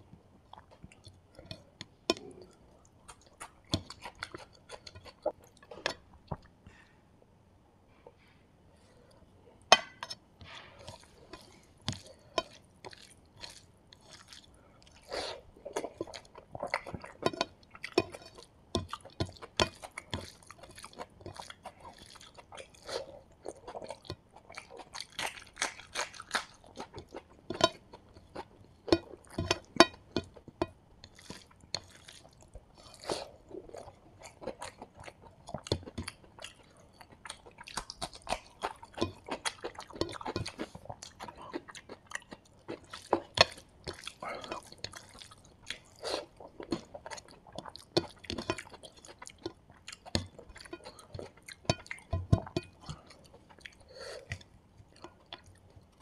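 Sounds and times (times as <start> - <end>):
crunchy chewing: 10.5 - 56.0
fingers squishing and mixing rice: 10.5 - 56.0.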